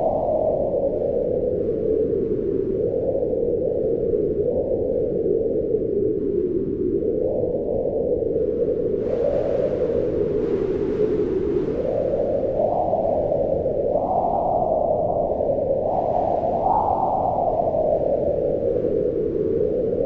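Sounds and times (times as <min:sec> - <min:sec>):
howling wind: 0:00.0 - 0:20.0.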